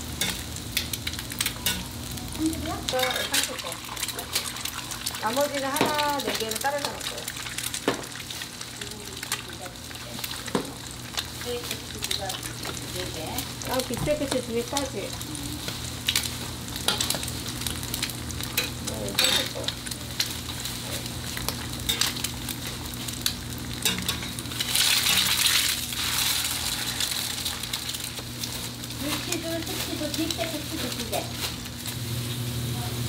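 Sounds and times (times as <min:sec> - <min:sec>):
food sizzling on a griddle: 0:00.0 - 0:33.0.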